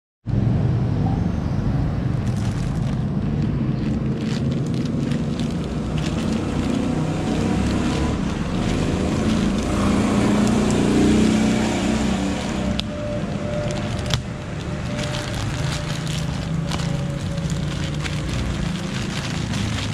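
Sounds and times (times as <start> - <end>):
motorcycle engine running: 2.2 - 19.9.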